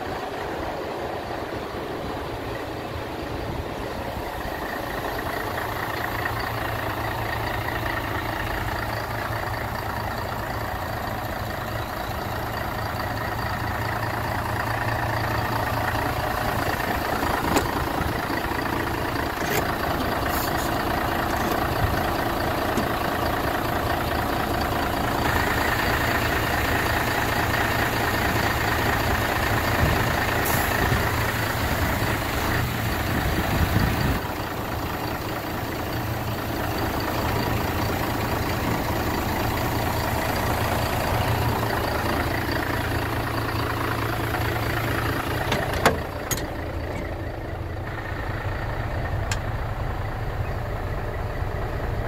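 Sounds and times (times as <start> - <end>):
truck diesel engine idling: 0.0 - 52.0.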